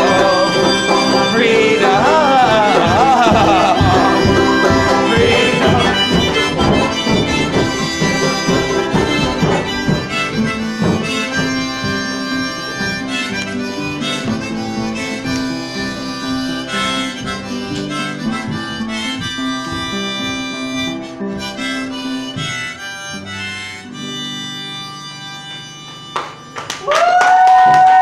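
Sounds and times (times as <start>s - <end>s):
harmonica chords: 0.0s - 26.9s.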